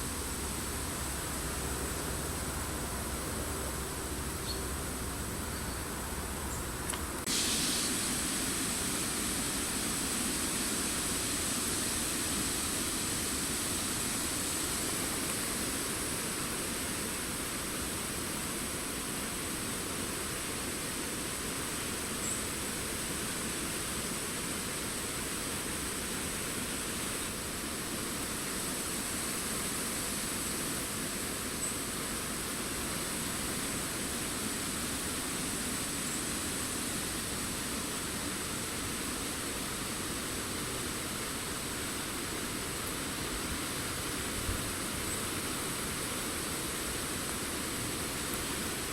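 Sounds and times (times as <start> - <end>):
wind in forest foliage: 0.0 - 48.9.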